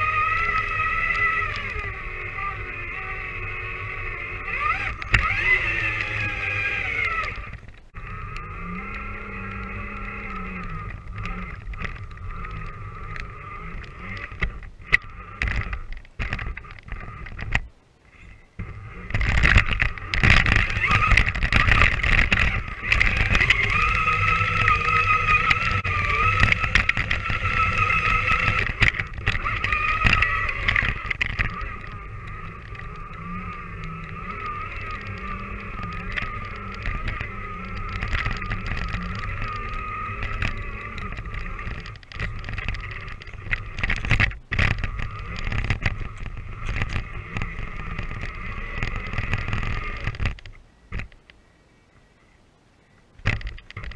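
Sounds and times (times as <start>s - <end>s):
toy truck electric motor whining: 0.0s - 17.6s, 18.6s - 50.4s.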